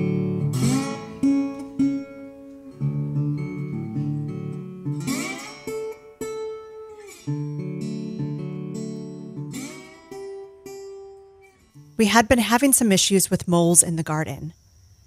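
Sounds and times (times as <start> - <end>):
acoustic guitar chords: 0.0 - 13.1.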